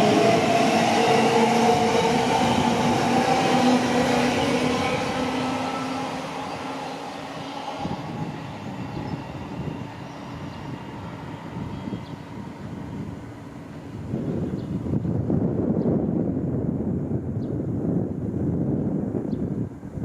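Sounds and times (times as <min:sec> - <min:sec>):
train passing: 0:00.0 - 0:16.4.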